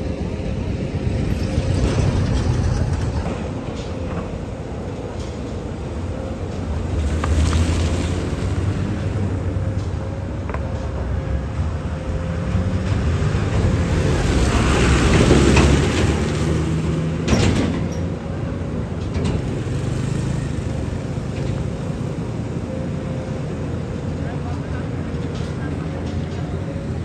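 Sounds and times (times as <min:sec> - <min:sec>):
heavy engine low rumble: 0:00.0 - 0:27.0.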